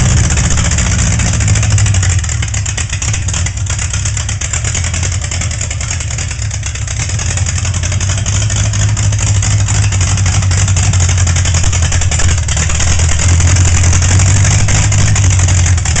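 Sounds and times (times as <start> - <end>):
straight-six engine running: 0.0 - 16.0.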